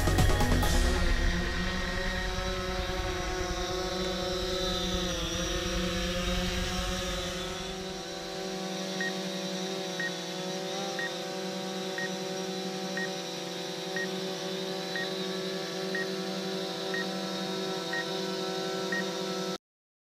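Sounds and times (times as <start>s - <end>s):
drone propeller whine: 0.0s - 19.6s.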